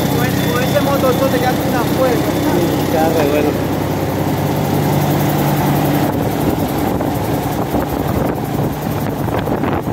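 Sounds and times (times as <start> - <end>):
diesel engine running: 0.0 - 9.9.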